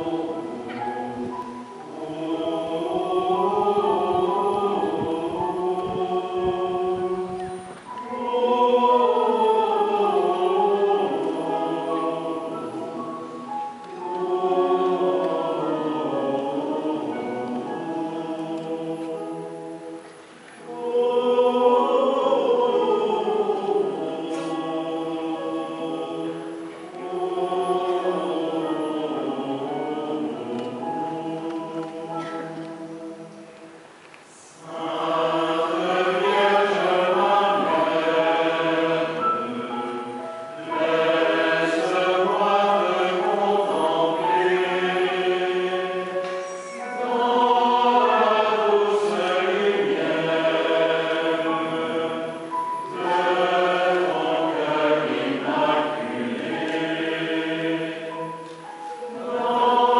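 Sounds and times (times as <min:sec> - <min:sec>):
group singing a hymn: 0:00.0 - 0:59.9.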